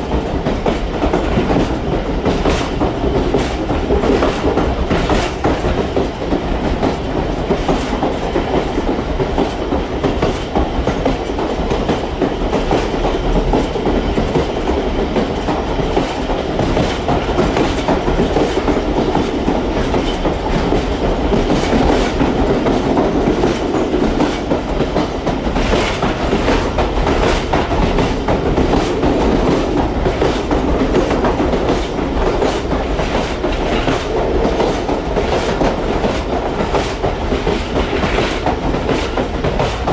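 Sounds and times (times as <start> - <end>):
sharp track clicks: 0.0 - 39.9
train wheels rumbling on rails: 0.0 - 39.9.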